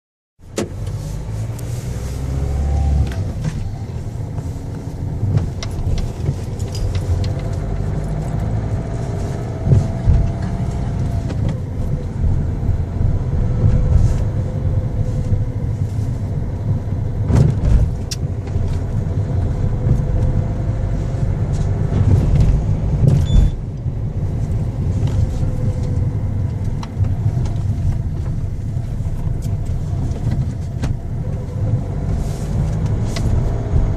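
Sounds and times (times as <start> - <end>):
car engine rumbling: 0.4 - 33.9
faint engine whine: 0.4 - 33.9.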